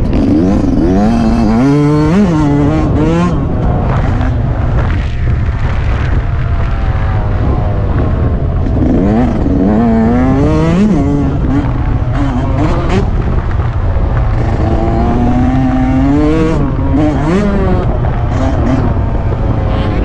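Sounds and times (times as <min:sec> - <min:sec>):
dirt bike engine revving: 0:00.0 - 0:20.0
wind buffeting microphone: 0:00.0 - 0:20.0.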